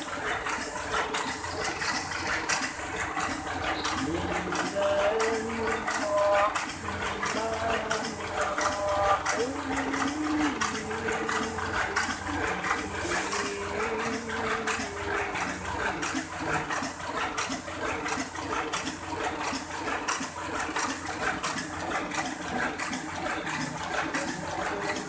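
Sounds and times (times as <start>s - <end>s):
printing press clattering: 0.0s - 25.0s.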